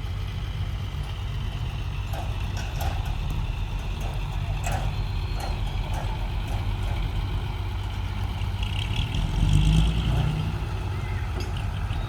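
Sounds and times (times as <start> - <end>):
diesel engine of heavy machinery: 0.0 - 12.0.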